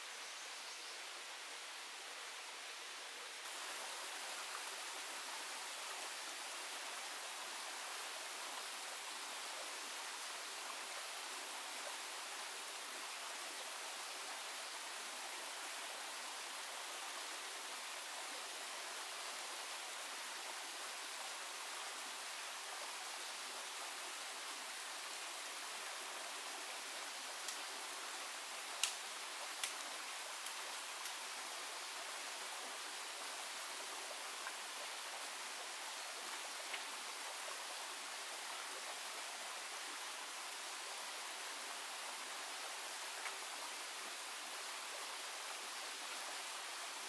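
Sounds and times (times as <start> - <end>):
stream water rushing: 1.0 - 47.0.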